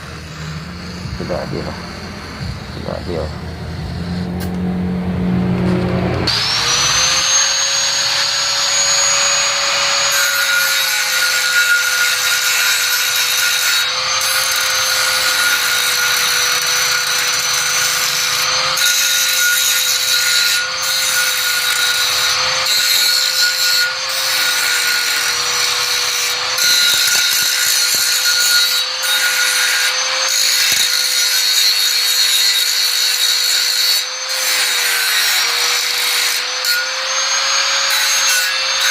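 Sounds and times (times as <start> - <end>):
grinding rasp: 0.0 - 4.5, 5.6 - 38.9
power tool motor running: 0.0 - 31.7.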